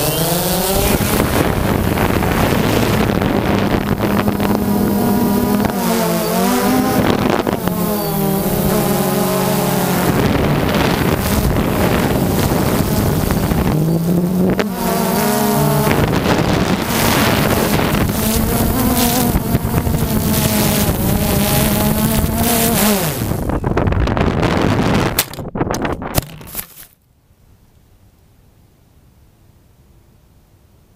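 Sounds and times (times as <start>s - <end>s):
drone propellers whining: 0.0s - 25.1s
wind rushing over microphone: 0.0s - 26.6s.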